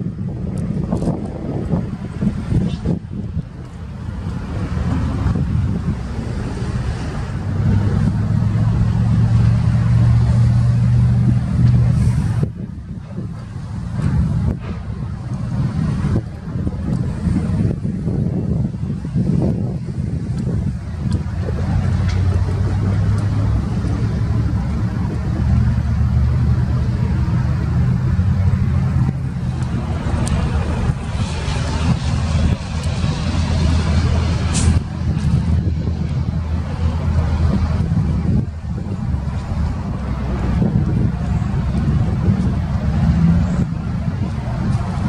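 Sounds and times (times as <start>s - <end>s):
diesel locomotive droning: 0.0s - 45.0s
wind buffeting microphone: 0.0s - 45.0s.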